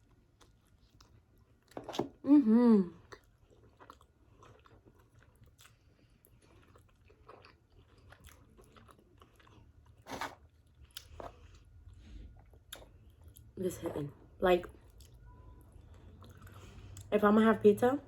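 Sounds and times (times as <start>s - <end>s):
chewing pizza: 0.0s - 13.6s, 14.7s - 17.1s.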